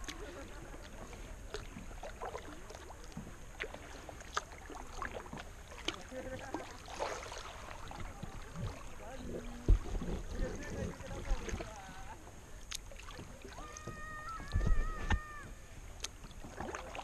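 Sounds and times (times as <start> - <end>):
kayak paddle splashing: 0.0 - 17.0.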